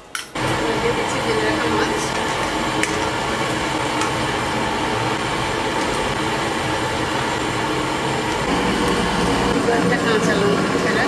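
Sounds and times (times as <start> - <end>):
gas stove burner rushing: 0.0 - 11.0.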